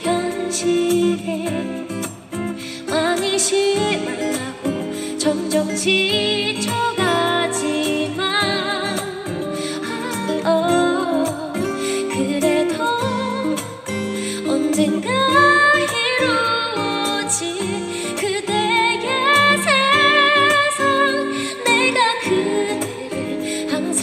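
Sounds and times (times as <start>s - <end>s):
strummed acoustic guitar: 0.0s - 24.0s
woman singing a pop ballad: 0.0s - 24.0s.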